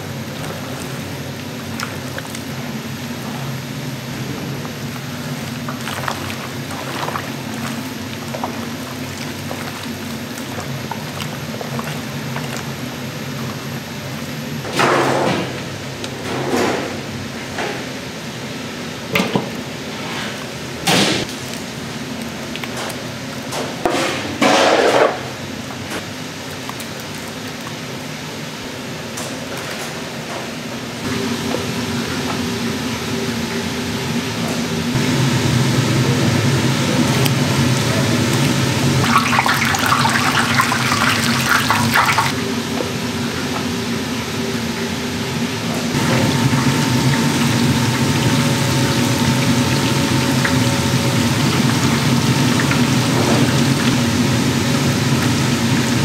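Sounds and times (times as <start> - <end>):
kitchen machinery hum: 0.0 - 56.0.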